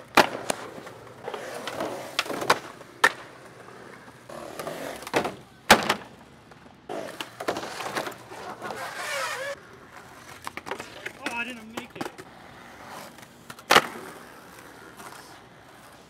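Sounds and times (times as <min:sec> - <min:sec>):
skateboard clacking on ground: 0:00.0 - 0:16.0
skateboard wheels rolling: 0:00.0 - 0:16.0.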